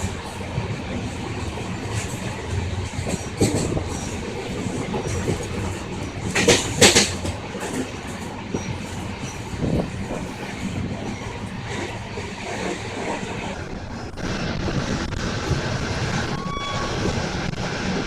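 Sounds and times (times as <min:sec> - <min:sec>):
wheels clacking over rail joint: 0:00.0 - 0:17.4
train wheels rumbling on track: 0:00.0 - 0:18.0.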